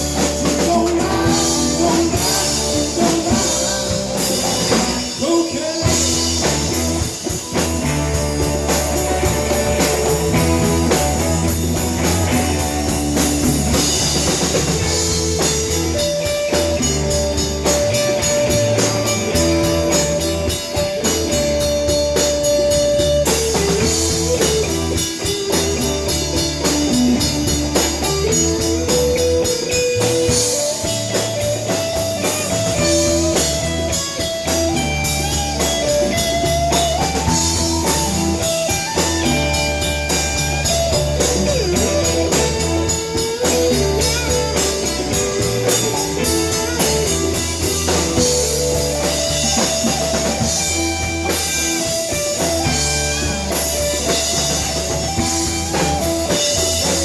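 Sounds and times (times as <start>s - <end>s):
blues-rock band jamming: 0.0s - 57.0s
electric guitar lead line: 0.0s - 57.0s.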